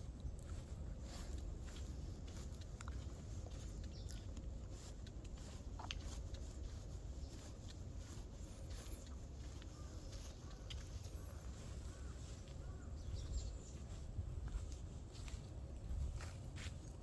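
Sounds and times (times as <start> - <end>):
bare footsteps on soil: 0.0 - 17.0.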